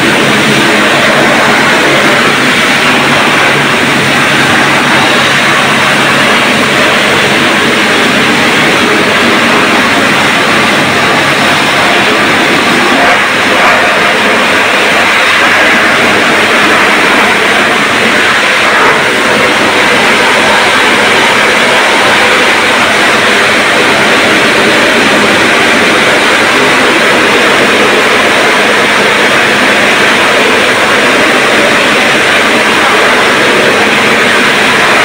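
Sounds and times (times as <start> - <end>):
pressure washer spraying: 0.0 - 35.0.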